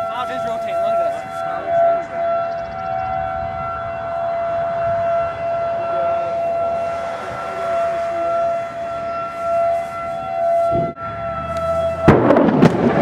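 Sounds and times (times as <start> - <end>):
warning siren wailing: 0.0 - 13.0
wind noise on microphone: 0.5 - 13.0.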